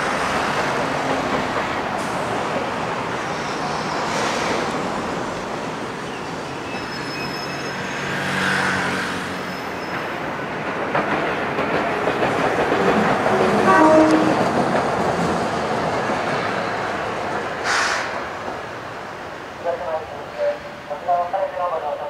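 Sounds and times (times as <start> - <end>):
streetcar wheels rumbling on rail: 0.0 - 22.0.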